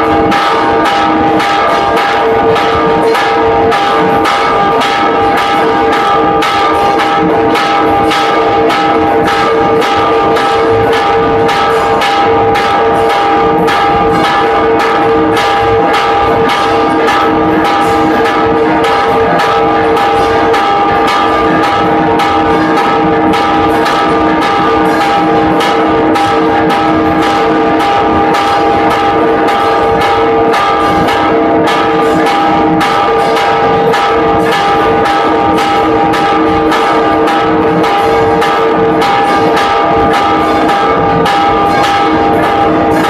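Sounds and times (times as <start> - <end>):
large church bell strokes: 0.0 - 43.0
ringing hum of bells: 0.0 - 43.0.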